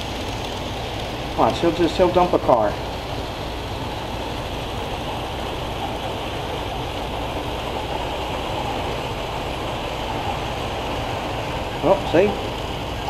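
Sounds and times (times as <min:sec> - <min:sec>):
model train rumbling on track: 0:00.0 - 0:13.0.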